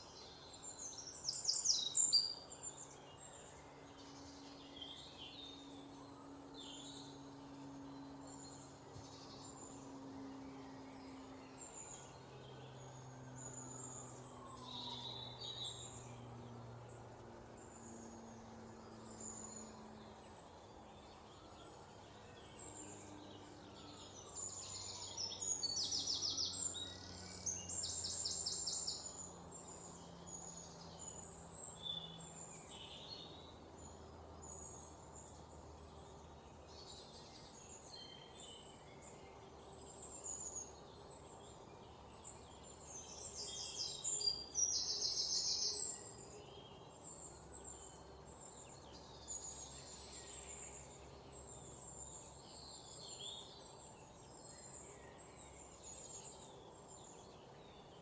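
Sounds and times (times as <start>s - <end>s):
faint low hum: 0.0s - 58.0s
wild birds chirping: 0.0s - 58.0s.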